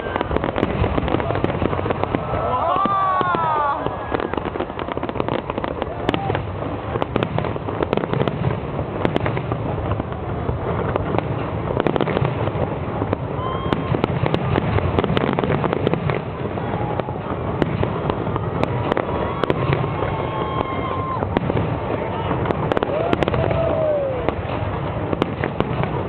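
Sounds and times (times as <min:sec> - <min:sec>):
fireworks exploding: 0:00.0 - 0:26.0.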